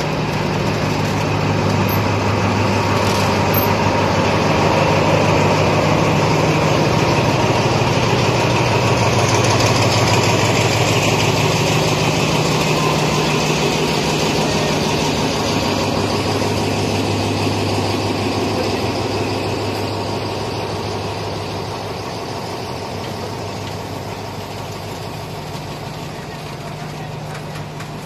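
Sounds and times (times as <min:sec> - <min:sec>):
low engine hum: 0:00.0 - 0:28.0
train wheels rumbling: 0:00.0 - 0:28.0.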